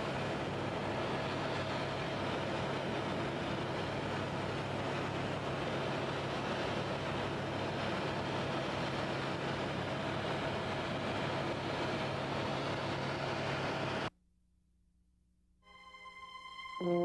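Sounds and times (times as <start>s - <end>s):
aircraft cabin drone: 0.0s - 14.1s, 15.8s - 17.0s.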